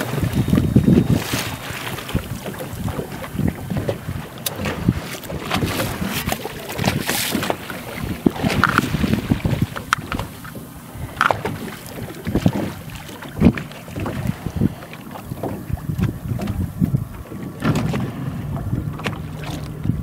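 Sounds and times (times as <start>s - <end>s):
waves splashing against boat: 0.0s - 20.0s
wind on microphone: 0.0s - 20.0s.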